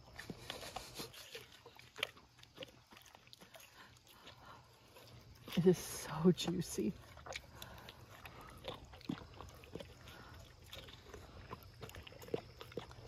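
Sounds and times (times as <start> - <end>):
puppy chewing watermelon: 0.0 - 13.0.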